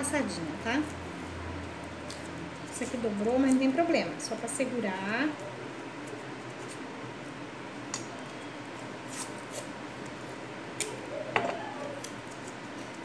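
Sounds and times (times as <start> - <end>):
steady room hiss: 0.0 - 13.0.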